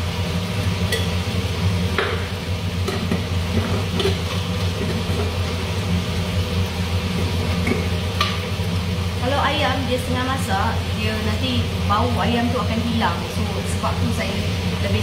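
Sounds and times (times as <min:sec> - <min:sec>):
chicken sizzling in a pot: 0:00.0 - 0:15.0
range hood fan hum: 0:00.0 - 0:15.0.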